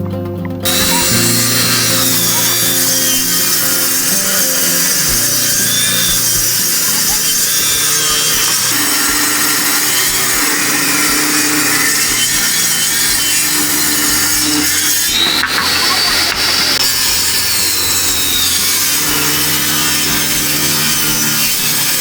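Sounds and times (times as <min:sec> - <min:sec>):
high whine: 0:00.0 - 0:22.0
power tool cutting wood: 0:00.6 - 0:22.0.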